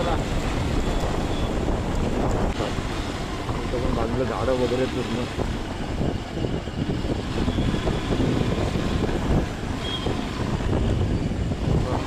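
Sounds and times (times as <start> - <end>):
vehicle and road noise: 0.0 - 12.0
wind buffeting microphone: 0.0 - 12.0.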